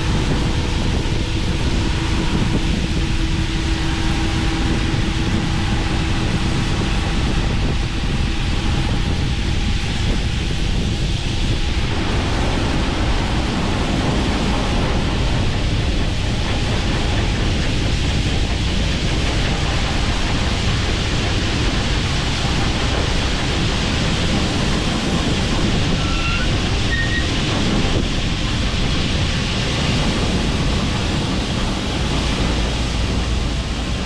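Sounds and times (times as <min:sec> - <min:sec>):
deep engine drone: 0:00.0 - 0:34.0
wind noise on microphone: 0:00.0 - 0:34.0.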